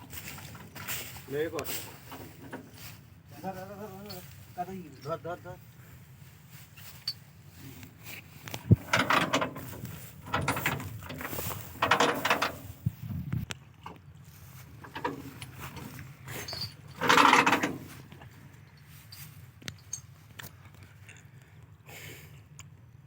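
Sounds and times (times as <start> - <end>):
tractor engine humming: 0.0 - 21.8.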